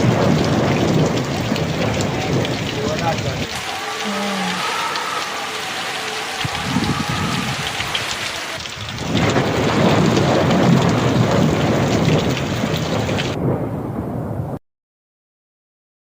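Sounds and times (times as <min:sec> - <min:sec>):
heavy rain falling: 0:00.0 - 0:13.6
thunder rumbling: 0:00.0 - 0:14.6.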